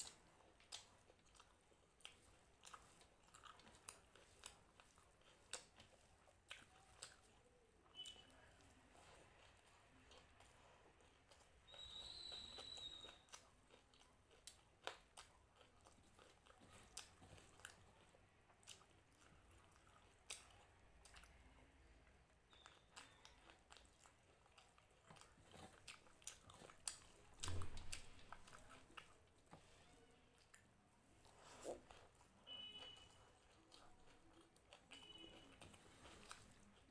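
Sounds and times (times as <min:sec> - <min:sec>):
person chewing crunchy food: 0:00.0 - 0:36.9.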